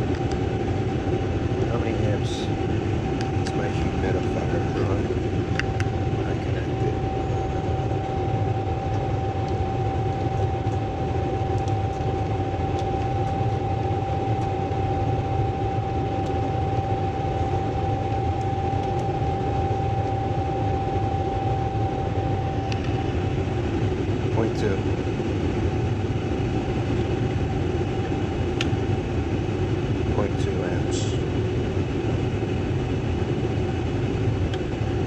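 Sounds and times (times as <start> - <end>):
furnace low hum: 0.0 - 35.0
steady high whine: 0.0 - 35.0.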